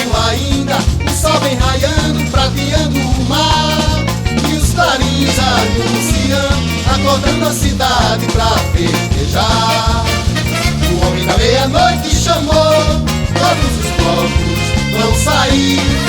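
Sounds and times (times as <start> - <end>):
upbeat band dance music: 0.0 - 16.0.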